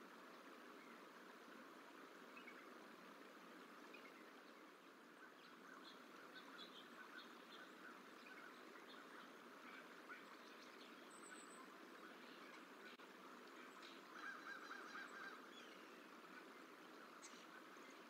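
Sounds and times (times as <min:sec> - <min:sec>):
faint ambient hiss: 0:00.0 - 0:18.0
faint bird calls: 0:00.1 - 0:18.0.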